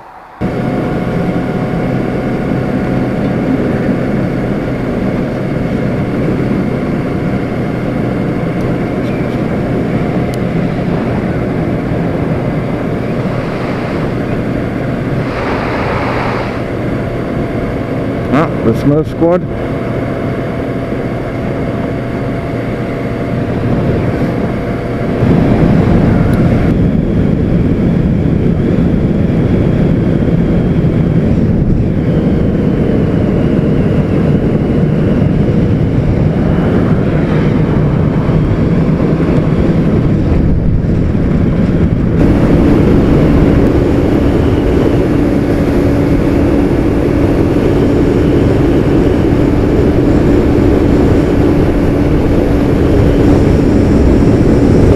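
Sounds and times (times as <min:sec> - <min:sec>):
wind noise on microphone: 0:00.0 - 0:54.9
motorcycle engine running: 0:00.4 - 0:18.6, 0:19.4 - 0:54.9.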